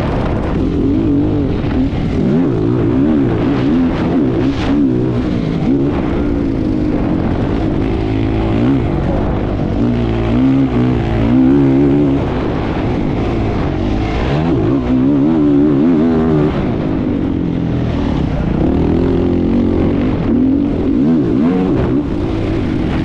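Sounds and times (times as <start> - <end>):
racing engine revving: 0.0 - 23.0.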